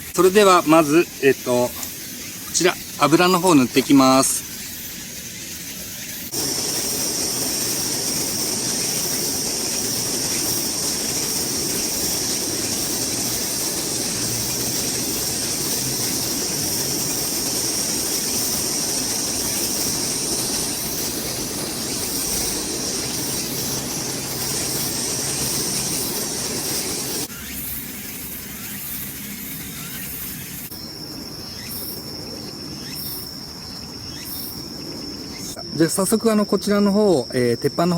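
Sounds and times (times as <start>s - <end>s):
oil sizzling on griddle: 0.0s - 30.6s.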